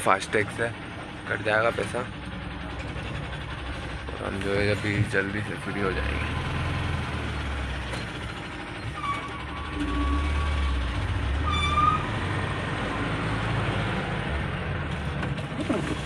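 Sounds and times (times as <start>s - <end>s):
truck engine accelerating: 0.0s - 16.0s.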